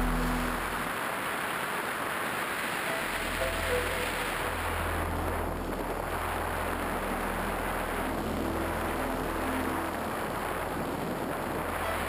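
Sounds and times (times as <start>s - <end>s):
ambient electronic music: 0.0s - 1.3s, 2.9s - 12.0s.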